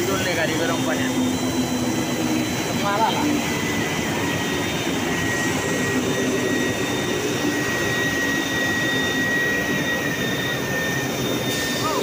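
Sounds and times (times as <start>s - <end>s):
factory machinery rushing noise: 0.0s - 12.0s
high machinery whine: 0.0s - 12.0s.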